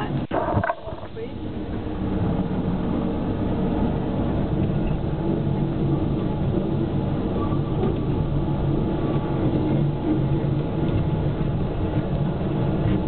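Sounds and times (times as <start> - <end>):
small train running on track: 1.2 - 13.0.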